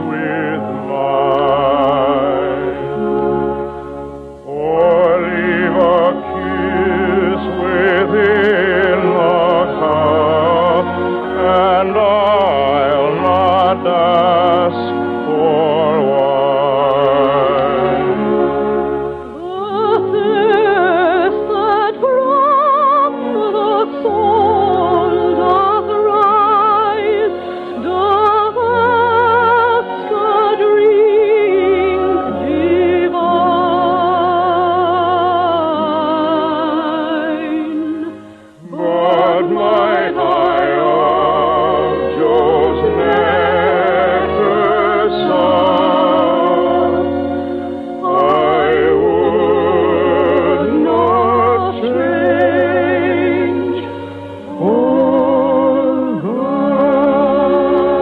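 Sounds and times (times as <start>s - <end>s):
operatic singing: 0.0s - 58.0s
orchestral accompaniment: 0.0s - 58.0s.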